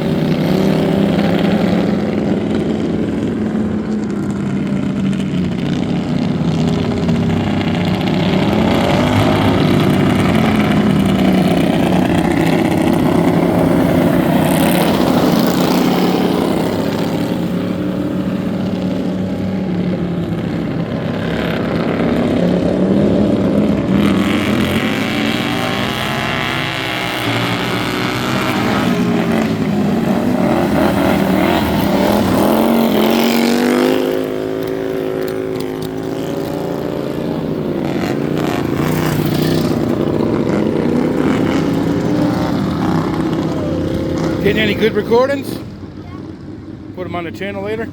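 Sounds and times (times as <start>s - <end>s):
racing lawn mower engines: 0.0s - 47.9s.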